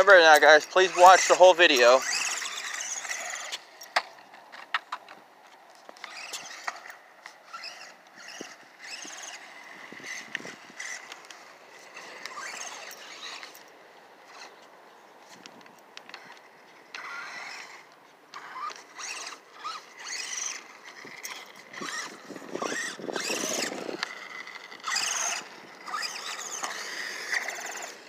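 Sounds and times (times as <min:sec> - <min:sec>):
small electric motor whining: 0:00.0 - 0:05.1, 0:05.8 - 0:28.0.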